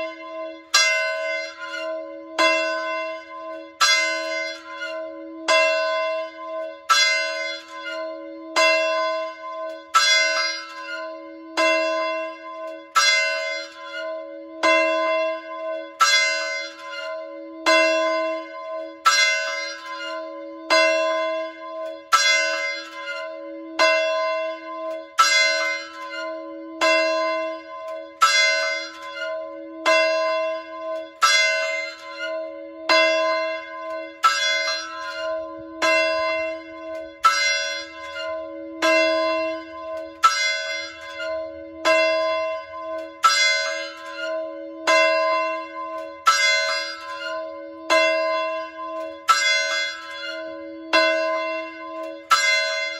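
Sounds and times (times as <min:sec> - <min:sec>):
large fire alarm bell ringing: 0:00.0 - 0:52.9.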